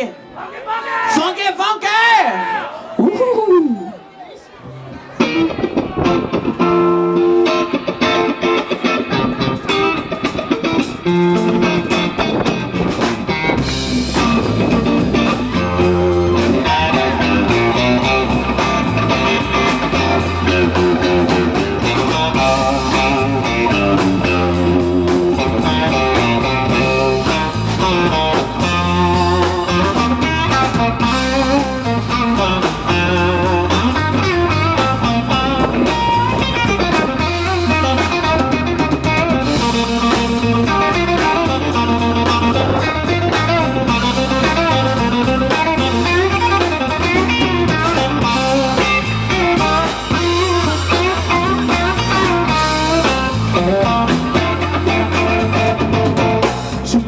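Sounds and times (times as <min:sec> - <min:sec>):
bass riff: 0:04.6 - 0:57.0
drums: 0:04.6 - 0:57.0
electric guitar lead: 0:04.6 - 0:57.0
live blues band playing: 0:04.6 - 0:57.0.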